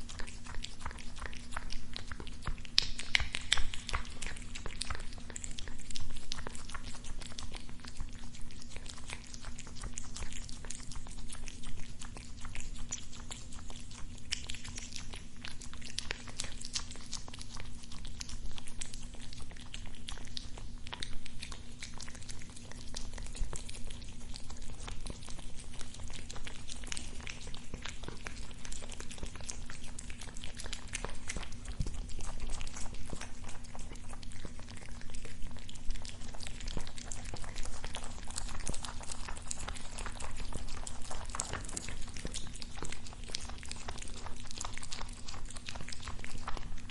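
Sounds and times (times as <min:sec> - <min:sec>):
cat chewing food: 0:00.0 - 0:46.9.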